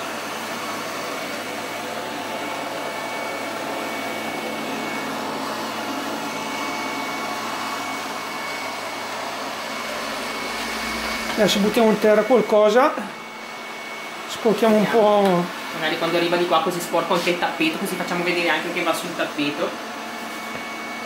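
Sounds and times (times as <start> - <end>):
robot vacuum whirring: 0.0 - 21.0.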